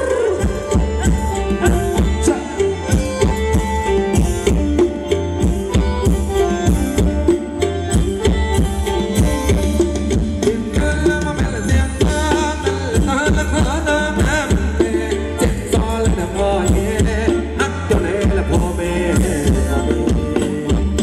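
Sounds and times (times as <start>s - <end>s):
sustained melody notes: 0.0s - 21.0s
hand drums beating: 0.4s - 21.0s.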